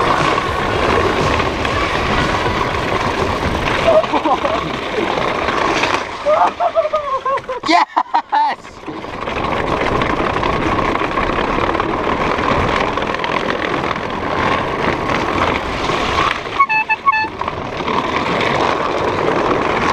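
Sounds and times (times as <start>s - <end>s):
bicycle tyre rumble on boardwalk: 0.0s - 19.9s.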